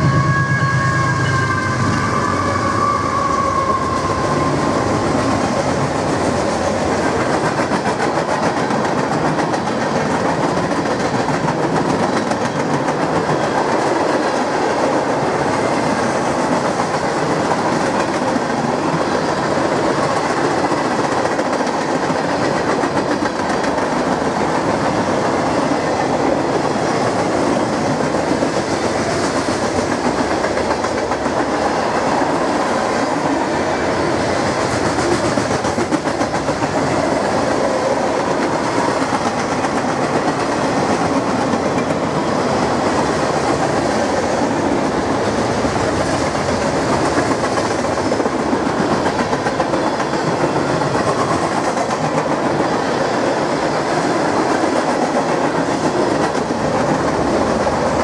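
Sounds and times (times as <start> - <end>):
freight train wheels clattering on rails: 0.0 - 58.0.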